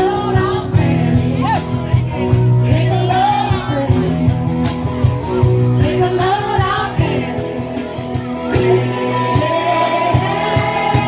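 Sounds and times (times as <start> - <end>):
rock song with vocals: 0.0 - 11.0.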